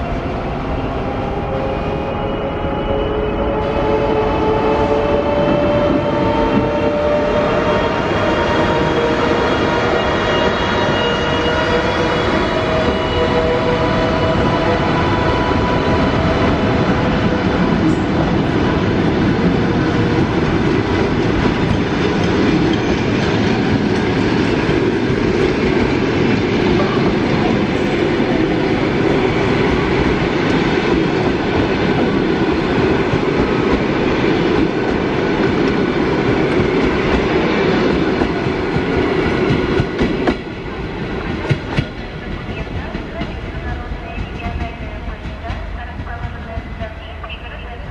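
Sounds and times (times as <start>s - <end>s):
train wheels clattering on rails: 4.4s - 47.5s.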